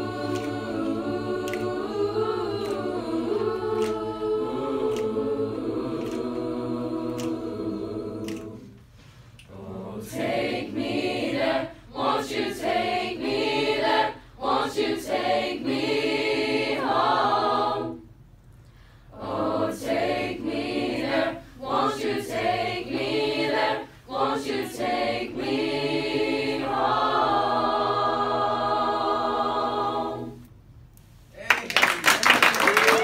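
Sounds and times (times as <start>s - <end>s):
choir singing a cappella: 0.0s - 18.2s, 19.0s - 30.6s.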